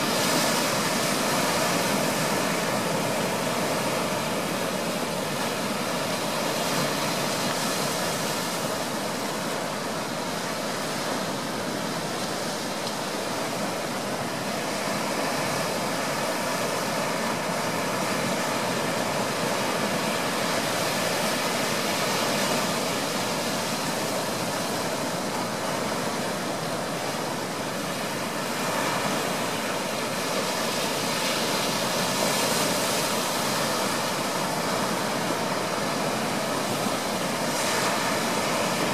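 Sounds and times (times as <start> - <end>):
surf washing on beach: 0.0 - 38.9.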